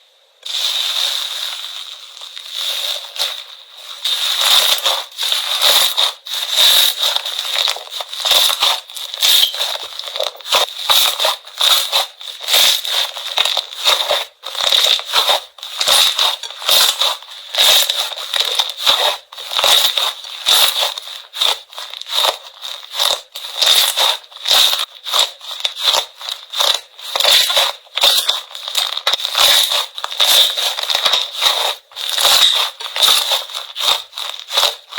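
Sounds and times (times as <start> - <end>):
slime crackling and popping: 0.4 - 34.9.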